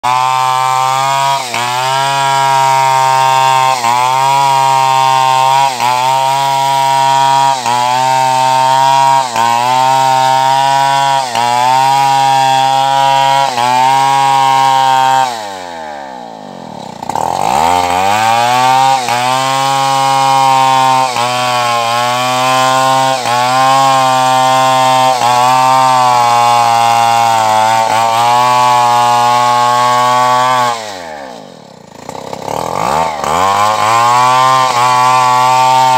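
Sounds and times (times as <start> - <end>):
chainsaw cutting logs: 0.0 - 35.9.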